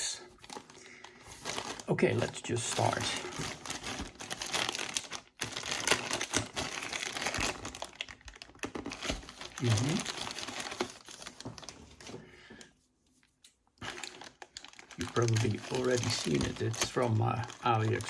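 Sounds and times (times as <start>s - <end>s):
packaging crinkling: 0.0s - 12.2s, 13.8s - 18.0s.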